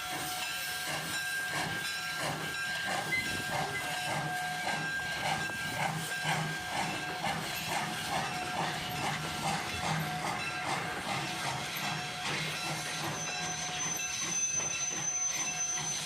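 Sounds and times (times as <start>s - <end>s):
steam hissing: 0.0s - 16.0s
steam locomotive chuffing: 0.0s - 16.0s.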